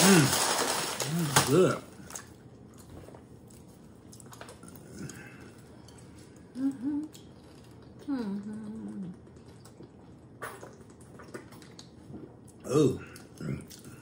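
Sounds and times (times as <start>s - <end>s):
quiet eating sounds: 0.0s - 14.0s.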